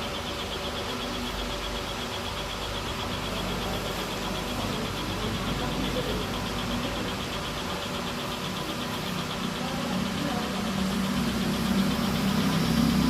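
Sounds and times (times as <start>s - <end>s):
ceiling fan motor hum: 0.0s - 13.0s
faint fast ticking: 0.0s - 13.0s.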